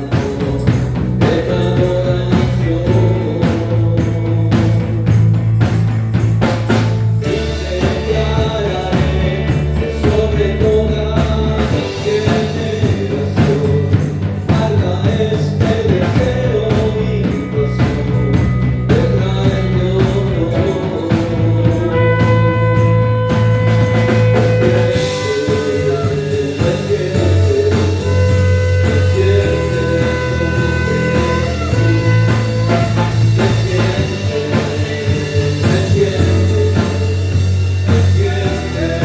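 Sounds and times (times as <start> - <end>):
bass notes: 0.0 - 39.0
drum beat: 0.0 - 39.0
electric guitar melody: 0.0 - 39.0.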